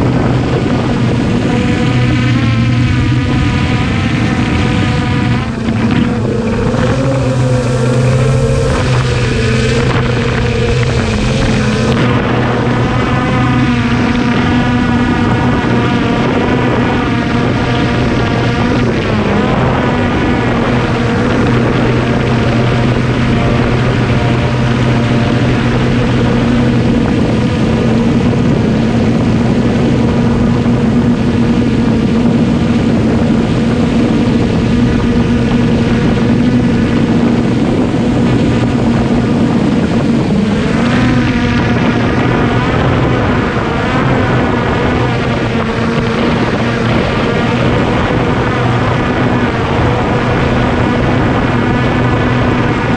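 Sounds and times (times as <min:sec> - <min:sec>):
drone propellers whining: 0:00.0 - 0:52.9.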